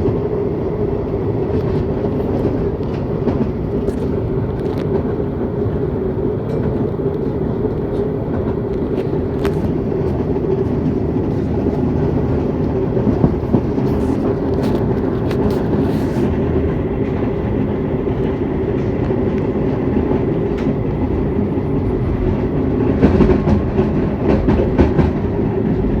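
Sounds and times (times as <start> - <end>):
tram motor hum: 0.0 - 26.0
wheels rumbling on rails: 0.0 - 26.0.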